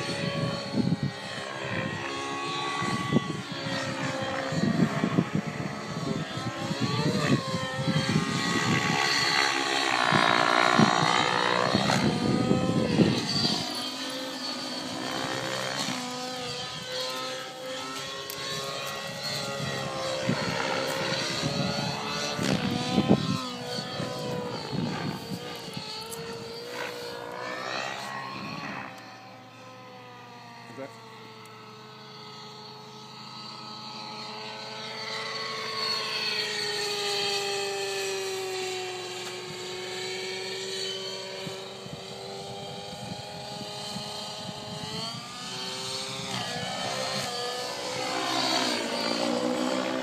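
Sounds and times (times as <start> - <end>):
rc helicopter engine and rotor: 0.0 - 50.0.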